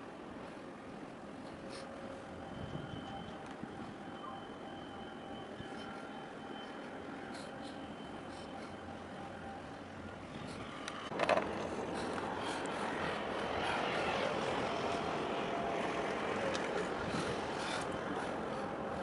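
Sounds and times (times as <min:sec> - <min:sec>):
faint steady tones: 0:00.0 - 0:19.0
ship engines humming: 0:00.0 - 0:19.0.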